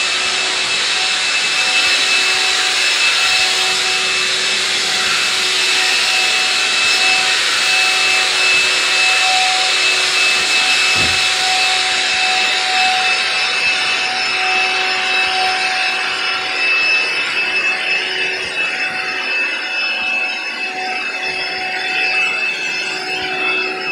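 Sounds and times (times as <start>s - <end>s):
coating sprayer motor whine: 0.0s - 23.9s.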